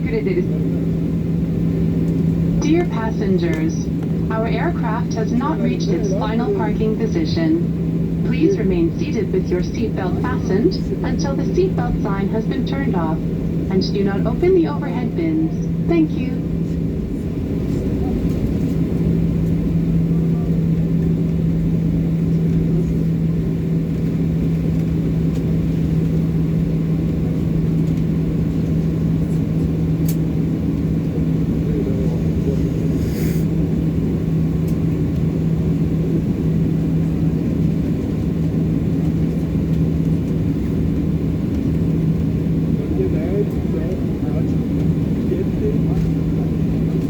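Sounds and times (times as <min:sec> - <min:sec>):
aircraft cabin rumble: 0:00.0 - 0:47.0.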